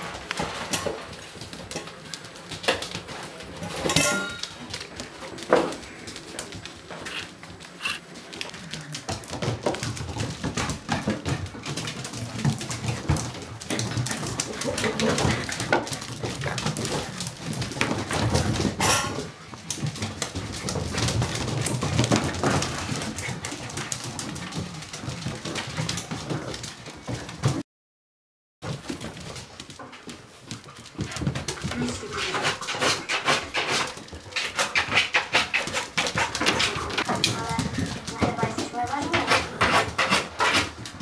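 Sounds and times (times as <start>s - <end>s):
scuffling and clicking on floor: 0.0s - 27.6s, 28.6s - 41.0s.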